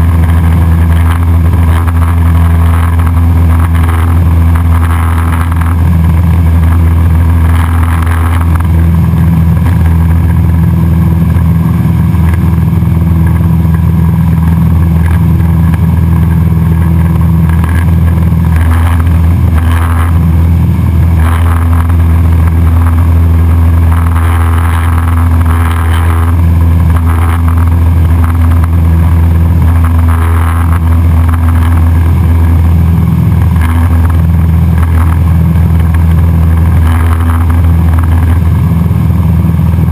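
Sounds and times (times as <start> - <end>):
propeller plane engine humming: 0.0 - 39.9.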